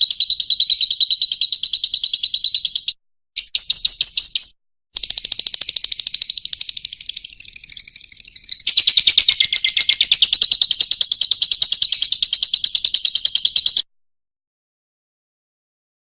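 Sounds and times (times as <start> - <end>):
bird chirping rapidly: 0.0 - 13.9.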